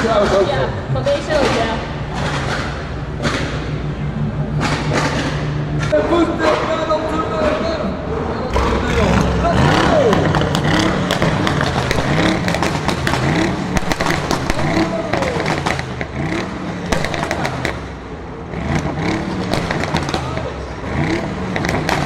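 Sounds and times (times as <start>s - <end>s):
exhaust pops and crackles: 0.0s - 7.9s, 8.5s - 22.0s
car engine revving: 0.0s - 22.0s.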